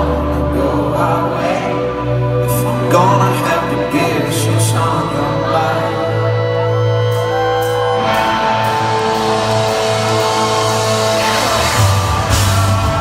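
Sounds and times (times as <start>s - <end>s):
electric guitar slide: 0.0s - 13.0s
live rock band playing: 0.0s - 13.0s.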